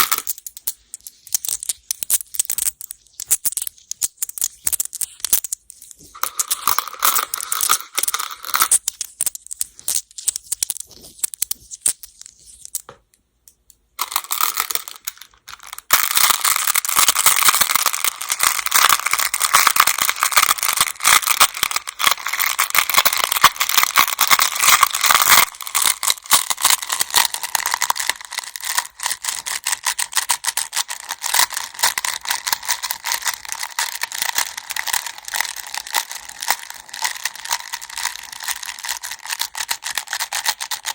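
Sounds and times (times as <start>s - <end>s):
game stones clattering: 0.0s - 12.8s, 14.0s - 40.9s.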